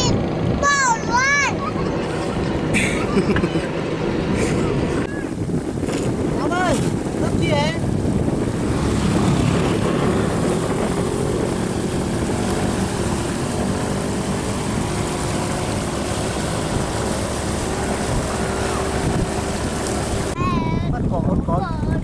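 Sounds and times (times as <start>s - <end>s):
engine droning: 0.0s - 20.4s
wind on microphone: 0.0s - 22.0s.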